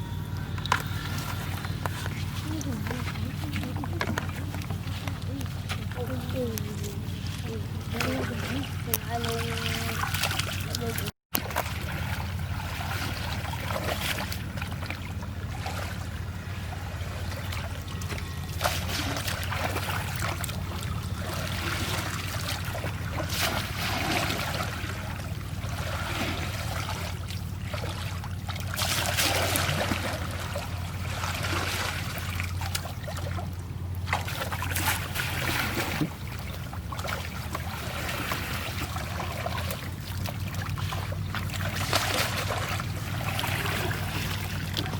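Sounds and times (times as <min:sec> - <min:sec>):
steady low hum: 0:00.0 - 0:44.9
water splashing and trickling: 0:00.0 - 0:44.9.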